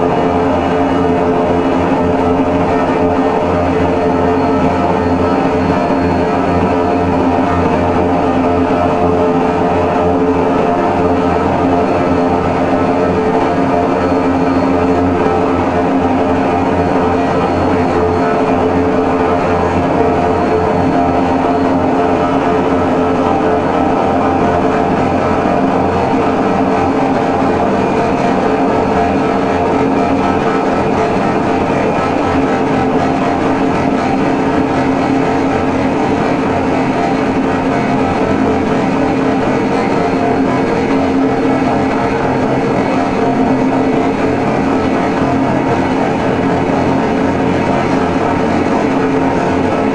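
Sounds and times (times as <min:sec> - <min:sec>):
drone noise music: 0:00.0 - 0:49.9.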